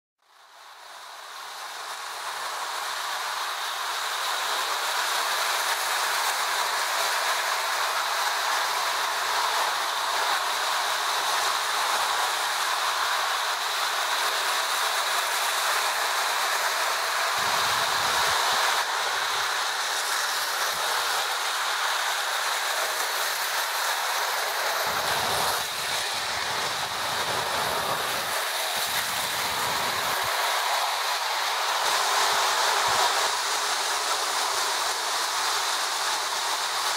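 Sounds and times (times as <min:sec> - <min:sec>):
toy trains rattling on metal track: 0:01.9 - 0:36.9.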